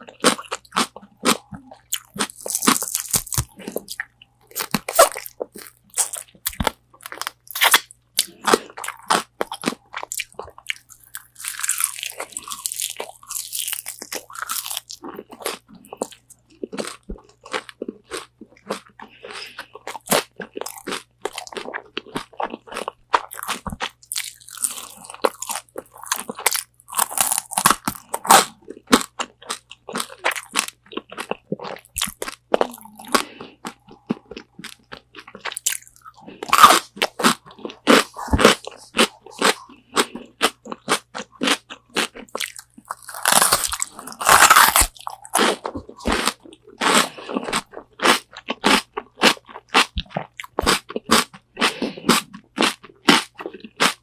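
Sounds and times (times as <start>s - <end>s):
crunchy fried chicken eating: 0.0s - 54.0s.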